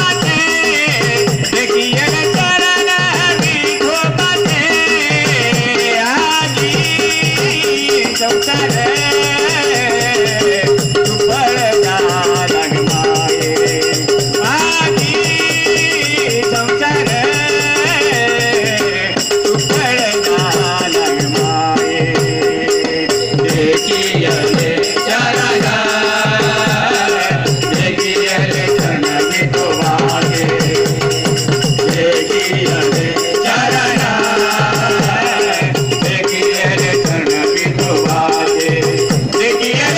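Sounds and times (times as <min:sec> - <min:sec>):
hand percussion beat: 0:00.0 - 0:39.9
jingling rhythm instruments: 0:00.0 - 0:39.9
voices singing: 0:00.0 - 0:39.9.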